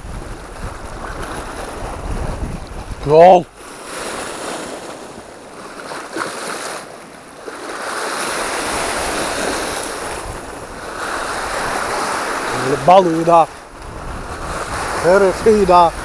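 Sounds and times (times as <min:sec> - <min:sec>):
waves splashing over rocks: 0:00.0 - 0:16.0.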